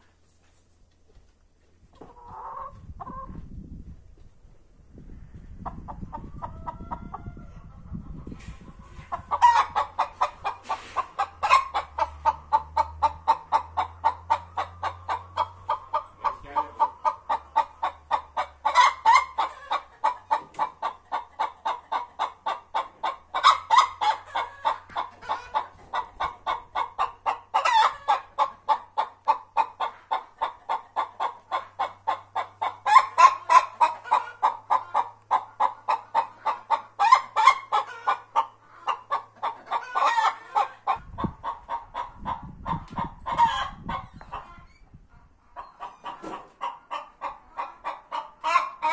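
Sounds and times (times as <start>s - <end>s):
hens clucking: 1.9s - 3.5s, 5.3s - 48.9s.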